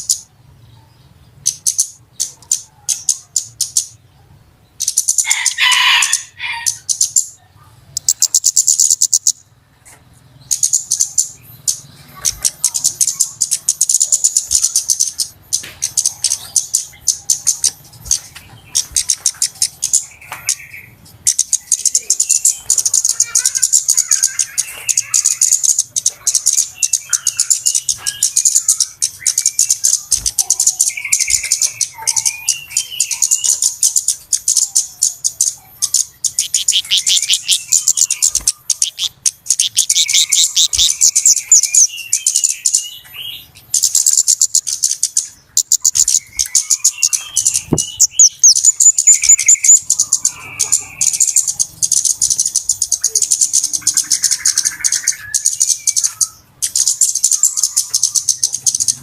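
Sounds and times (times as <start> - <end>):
high sharp bird ticking calls: 0.0 - 59.0
lower bird chirps: 0.0 - 59.0.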